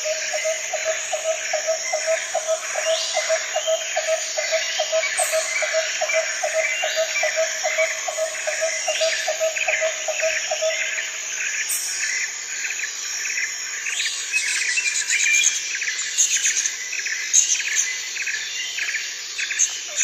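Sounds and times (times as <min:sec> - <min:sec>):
dense high insect hiss: 0:00.0 - 0:20.0.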